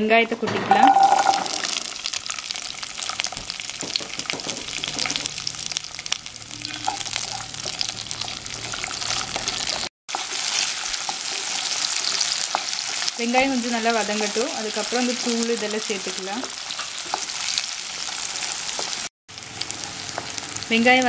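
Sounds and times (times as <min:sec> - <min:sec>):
shallots sizzling in oil: 0:00.9 - 0:21.0.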